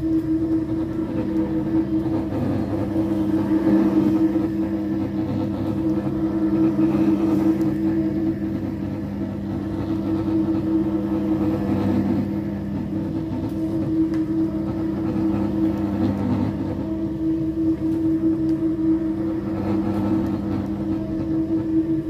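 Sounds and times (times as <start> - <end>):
floor polishing machine humming: 0.0 - 22.0.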